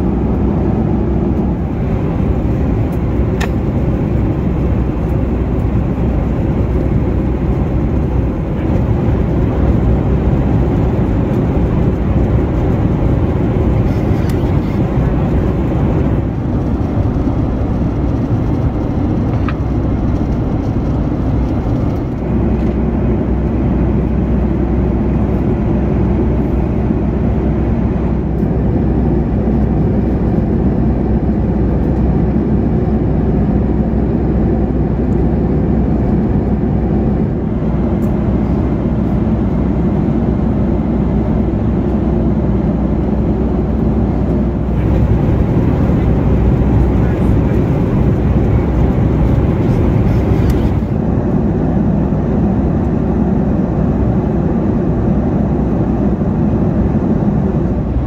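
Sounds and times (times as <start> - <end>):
airplane cabin engine noise: 0.0 - 58.0.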